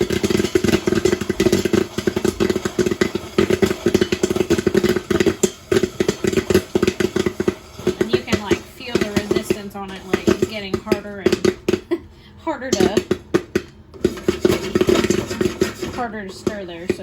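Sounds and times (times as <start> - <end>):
popcorn popper gears rattling: 0.0 - 11.9, 12.7 - 17.0
popcorn kernels popping: 0.0 - 17.0.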